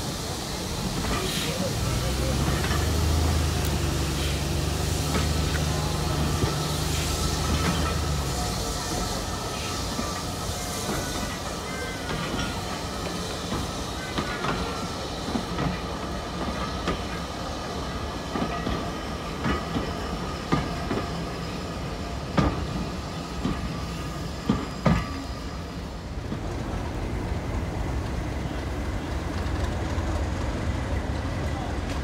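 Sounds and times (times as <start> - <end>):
low rumble of rolling coaches: 0.0 - 32.0.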